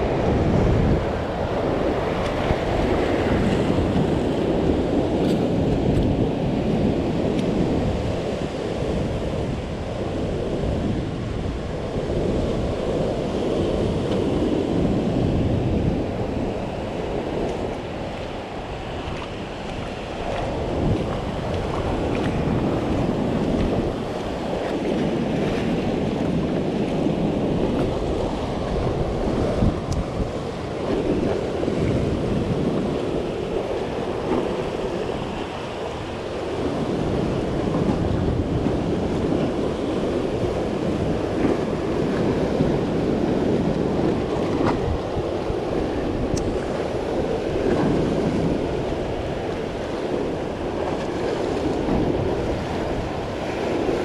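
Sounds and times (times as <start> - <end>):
ocean surf on rocky shore: 0.0 - 54.0
wind buffeting microphone: 0.0 - 54.0.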